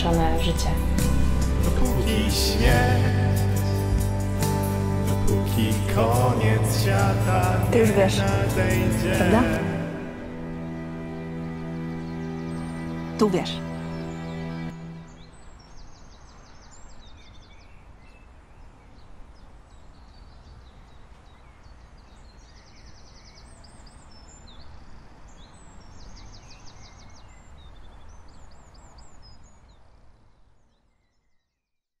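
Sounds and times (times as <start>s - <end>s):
steady background hiss: 0.0s - 31.1s
birds trilling and chirping: 0.0s - 31.2s.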